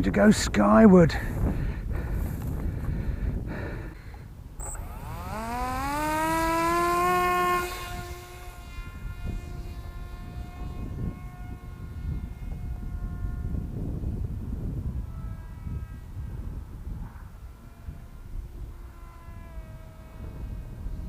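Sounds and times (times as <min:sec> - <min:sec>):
wind buffeting microphone: 0:00.0 - 0:21.0
electric motor whining: 0:01.3 - 0:21.0.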